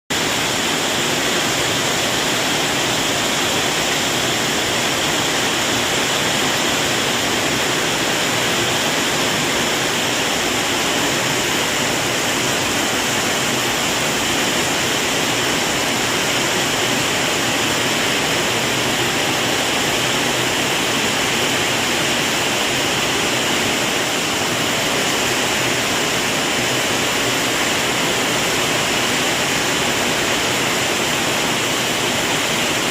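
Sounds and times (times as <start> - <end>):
heavy rain pouring: 0.1 - 32.9.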